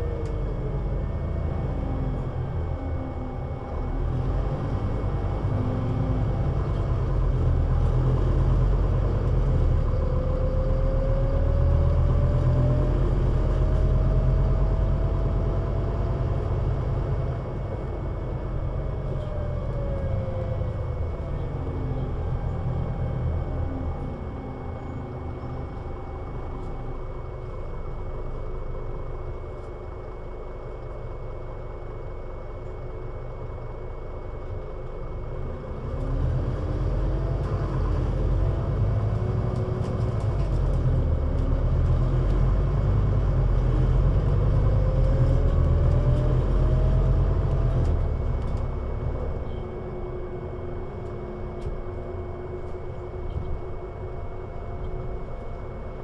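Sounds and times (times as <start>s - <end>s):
bus engine accelerating: 0.0s - 56.0s.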